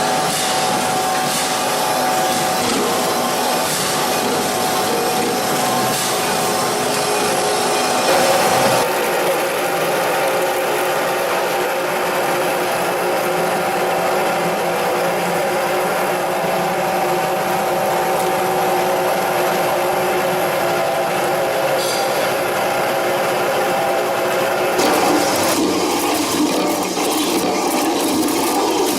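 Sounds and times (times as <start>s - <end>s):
machinery hum: 0.0s - 28.9s
machinery mechanical clatter: 0.0s - 28.9s.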